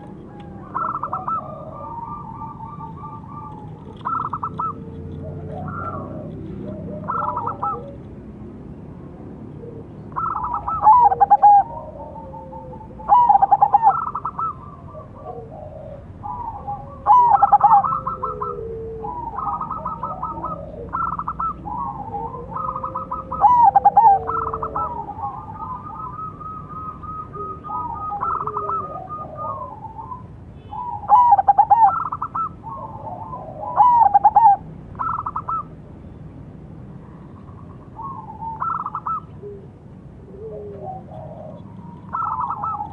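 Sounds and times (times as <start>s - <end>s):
dove cooing: 0.0s - 8.1s, 9.4s - 35.7s, 36.9s - 42.9s.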